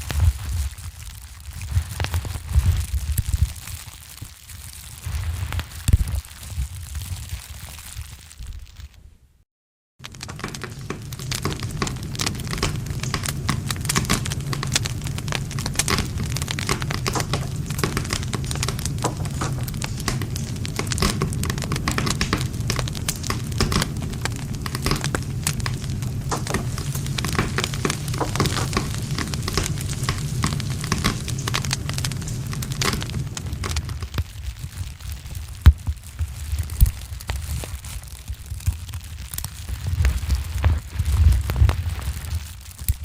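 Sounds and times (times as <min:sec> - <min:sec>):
campfire crackling and popping: 0:00.0 - 0:08.9, 0:10.0 - 0:43.0
low rumble of flames: 0:00.0 - 0:08.9, 0:10.0 - 0:43.0.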